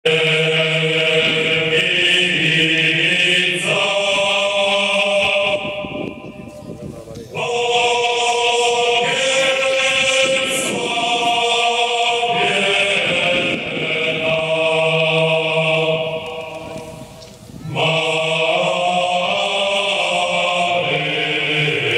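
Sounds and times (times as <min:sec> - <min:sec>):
choir chanting a hymn: 0:00.1 - 0:21.9.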